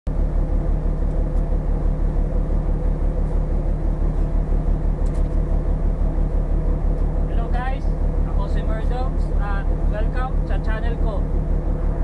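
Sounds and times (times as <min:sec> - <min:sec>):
ship engine rumbling: 0:00.1 - 0:12.0.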